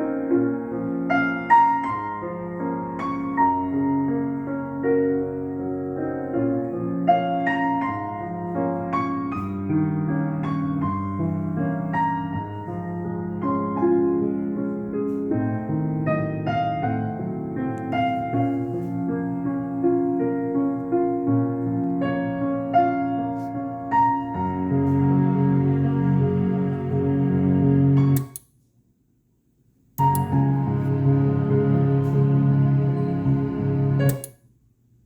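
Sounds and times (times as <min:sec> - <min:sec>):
slow piano music: 0:00.0 - 0:28.4, 0:30.0 - 0:34.3.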